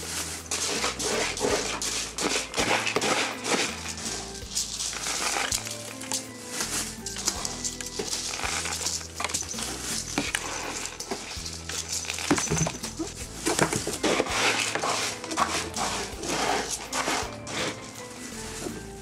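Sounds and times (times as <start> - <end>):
knocks and rustles of cardboard: 0.0 - 18.9
background music: 0.0 - 19.0.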